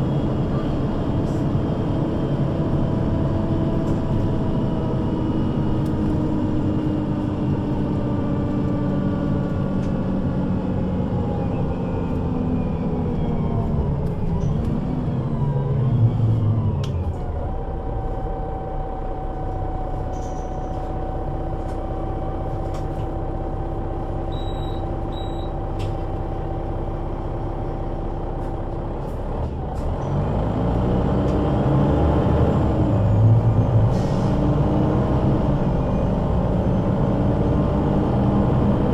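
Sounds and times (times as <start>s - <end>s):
bus engine and gearbox whine: 0.0s - 38.9s.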